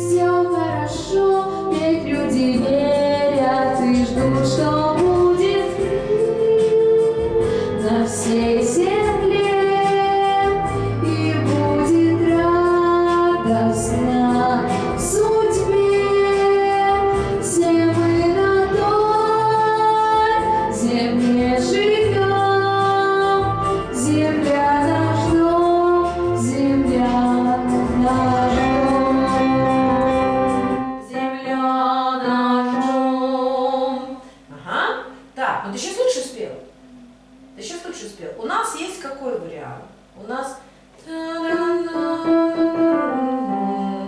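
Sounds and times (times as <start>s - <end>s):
girl singing into a microphone: 0.0s - 30.1s, 31.0s - 34.5s, 41.0s - 44.0s.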